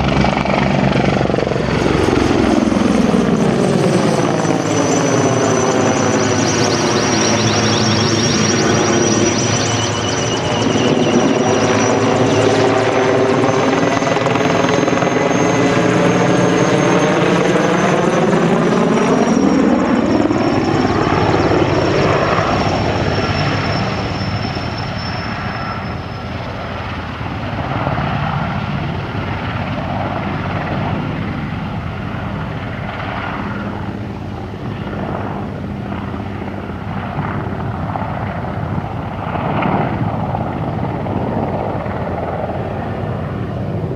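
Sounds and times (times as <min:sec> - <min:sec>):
helicopter engines whining: 0:00.0 - 0:43.9
helicopter rotor beating: 0:00.0 - 0:43.9.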